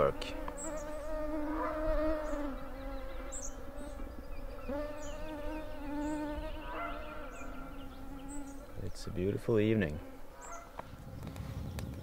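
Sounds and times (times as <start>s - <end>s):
mosquitoes buzzing: 0.0s - 11.7s.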